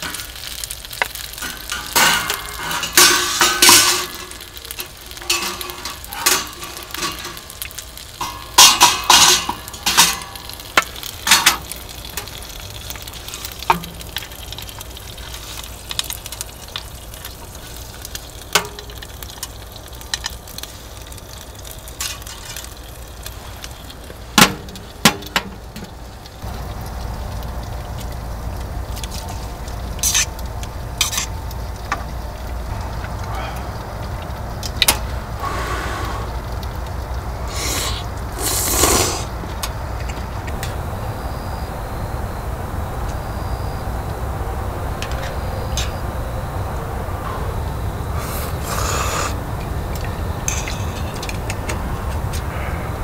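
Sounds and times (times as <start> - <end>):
low steady rumble: 0.0 - 38.4, 39.2 - 53.0
food sizzling: 0.0 - 53.0.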